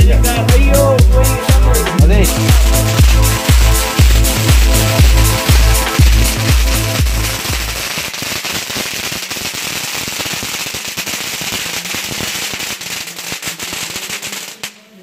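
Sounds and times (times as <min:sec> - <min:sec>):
fireworks crackling and popping: 0:01.5 - 0:15.0.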